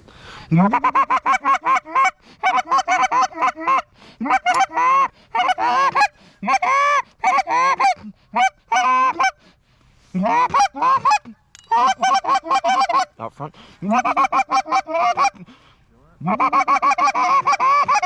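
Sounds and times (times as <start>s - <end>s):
goose honking and clucking: 0.5s - 9.4s, 10.1s - 13.2s, 13.8s - 15.4s, 16.2s - 18.0s.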